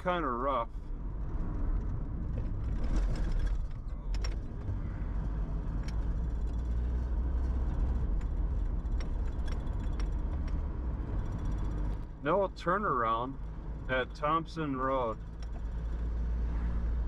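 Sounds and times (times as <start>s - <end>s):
car road rumble: 0.0s - 17.0s.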